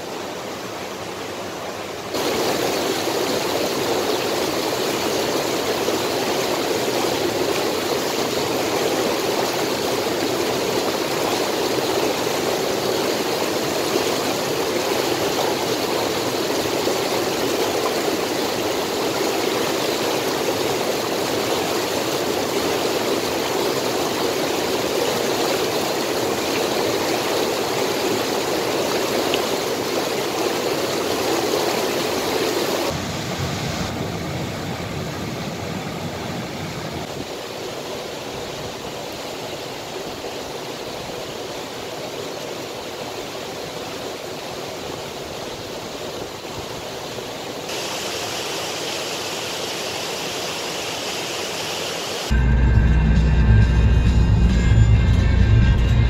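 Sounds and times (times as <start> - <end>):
river water rushing: 0.0 - 52.5.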